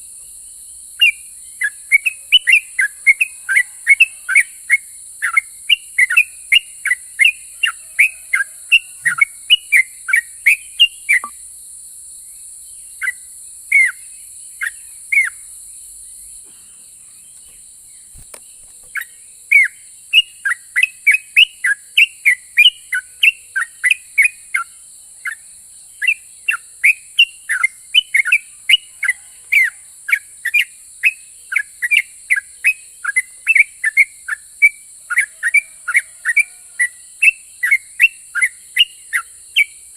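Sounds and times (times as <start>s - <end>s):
bulbul singing whistled notes: 0.9s - 11.4s, 12.7s - 39.9s.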